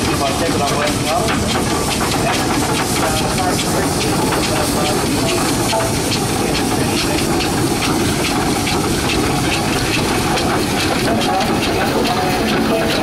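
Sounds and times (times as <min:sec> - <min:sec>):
steam engine exhaust beats: 0:00.0 - 0:13.0
steam engine hiss: 0:00.0 - 0:13.0.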